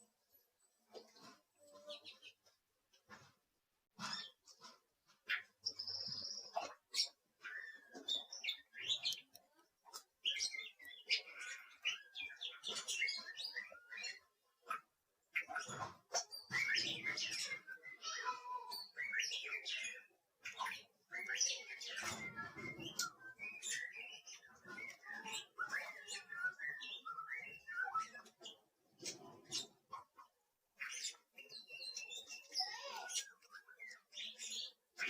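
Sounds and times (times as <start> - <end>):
small bird chirping: 0.0 - 35.0.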